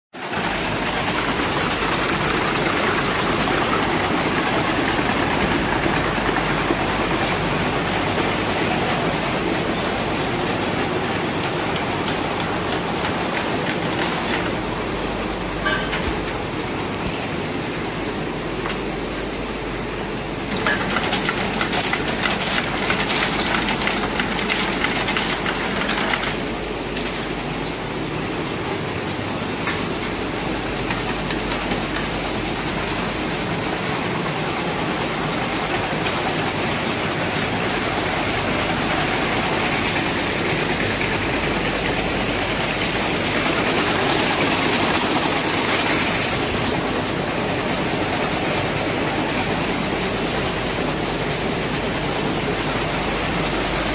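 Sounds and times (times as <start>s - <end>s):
mill machinery din: 0.2s - 53.9s.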